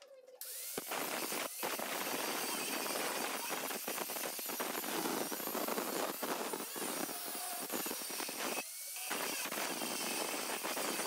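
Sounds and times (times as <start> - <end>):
angle grinder grinding steel: 0.4 - 11.0.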